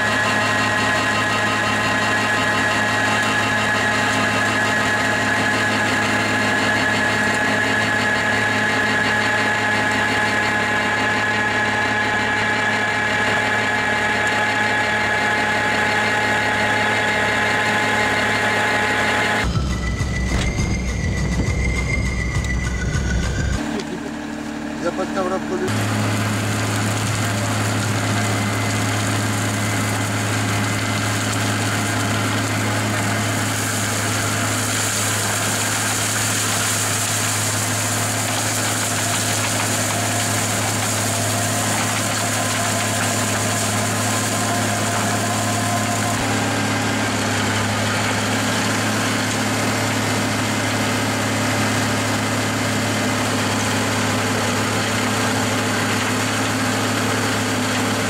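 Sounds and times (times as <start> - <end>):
mulcher rotor hissing: 0.0 - 49.2
tractor engine drone: 0.0 - 58.0.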